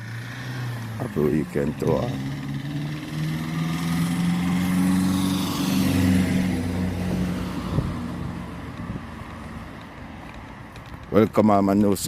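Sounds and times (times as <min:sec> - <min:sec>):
vehicle driving past: 0:00.0 - 0:10.2.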